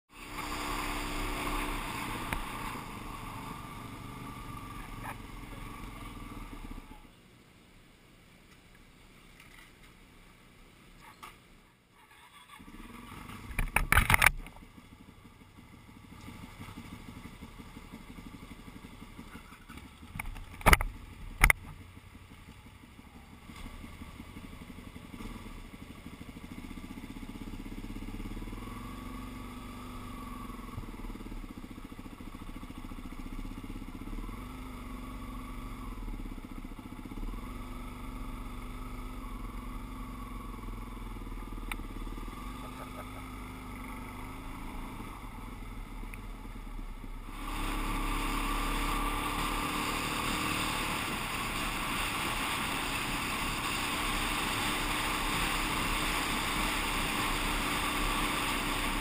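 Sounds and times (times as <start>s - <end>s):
motorcycle engine revving: 0.1s - 7.1s, 12.0s - 59.0s.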